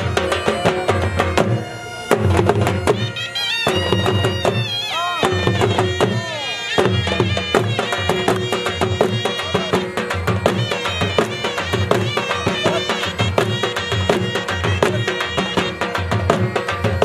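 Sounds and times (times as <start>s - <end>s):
bending melody line: 0.0s - 16.5s
drum beating quick rhythm: 0.0s - 17.0s.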